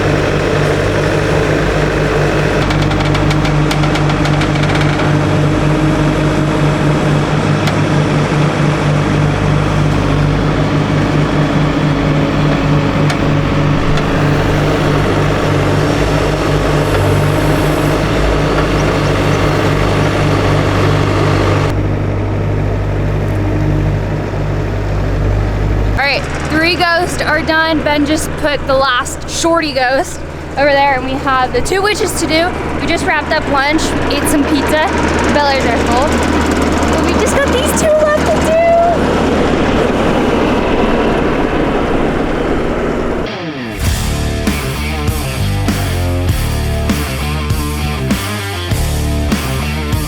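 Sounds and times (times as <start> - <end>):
large engine humming: 0.0 - 50.0.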